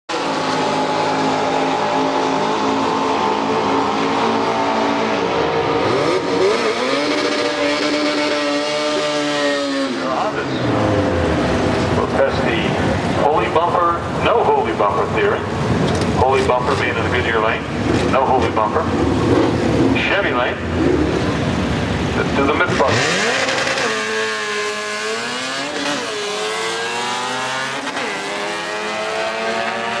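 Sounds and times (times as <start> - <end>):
engines droning: 0.1 - 30.0.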